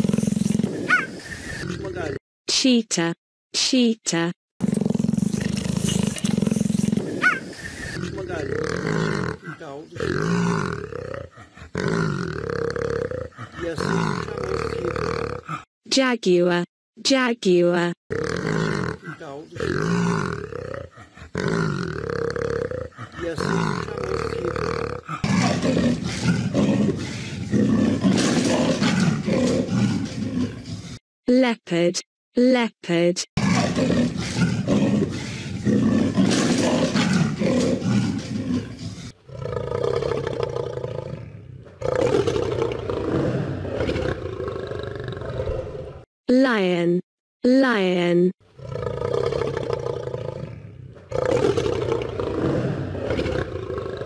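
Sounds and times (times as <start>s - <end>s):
big cat growling and roaring: 0.0s - 2.2s, 4.6s - 15.7s, 18.1s - 31.0s, 33.4s - 46.1s, 48.5s - 54.0s.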